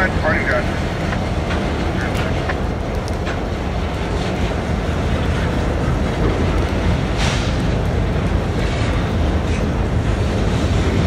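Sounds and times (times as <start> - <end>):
diesel locomotives rumbling: 0.0 - 11.0
rain hissing: 0.0 - 11.0.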